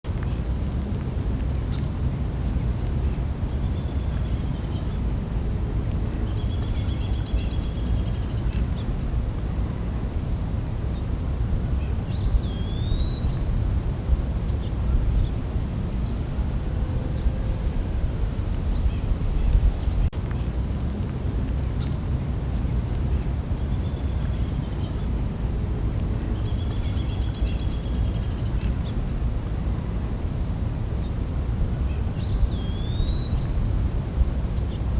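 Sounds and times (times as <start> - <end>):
cricket chirps: 0.1 - 34.9
insect trills: 0.5 - 21.2, 21.8 - 34.9.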